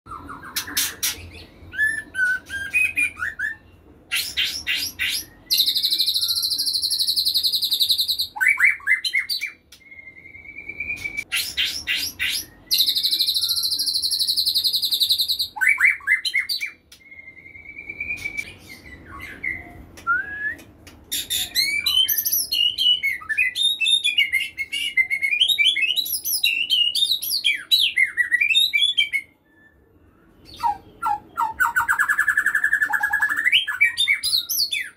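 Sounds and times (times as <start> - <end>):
bird singing: 0.1 - 34.9.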